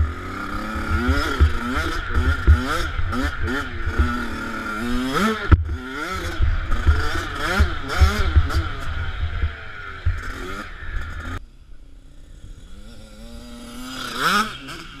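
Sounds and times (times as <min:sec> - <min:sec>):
dirt bike engine revving: 0:00.0 - 0:11.4, 0:12.0 - 0:15.0
motocross bike passing: 0:00.0 - 0:15.0.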